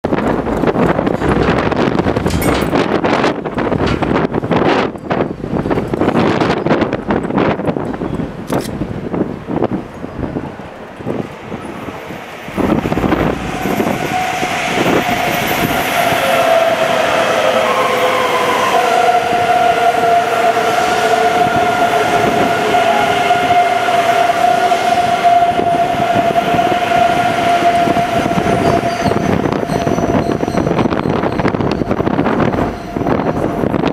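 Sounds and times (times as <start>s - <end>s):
train rumbling: 0.0s - 33.9s
train whining tones: 0.1s - 8.3s, 9.9s - 33.9s.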